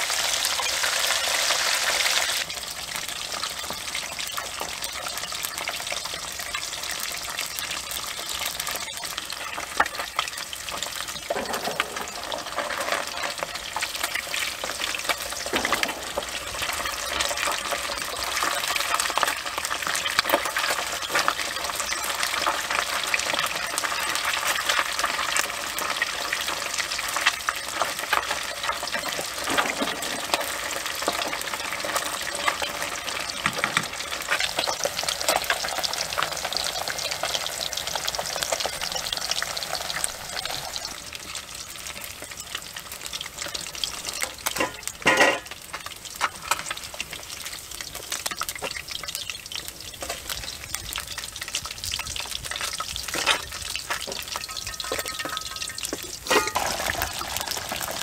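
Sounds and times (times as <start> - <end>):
fish sizzling in hot oil: 0.0 - 58.0.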